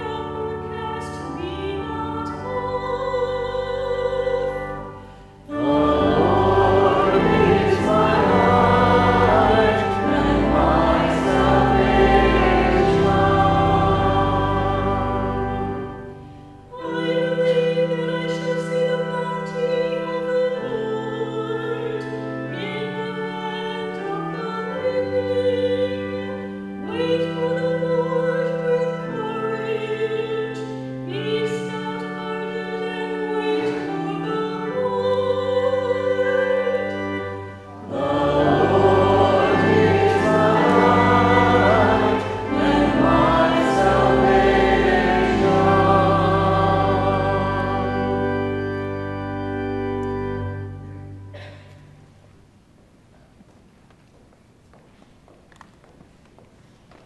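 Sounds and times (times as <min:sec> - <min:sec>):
choir singing: 0:00.0 - 0:51.1
sustained accompaniment: 0:00.0 - 0:52.7.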